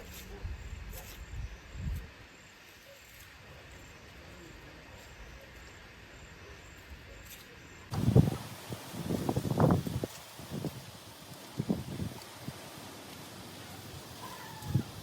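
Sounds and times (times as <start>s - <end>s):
low outdoor hiss: 0.0s - 15.0s
crickets chirping: 0.6s - 15.0s.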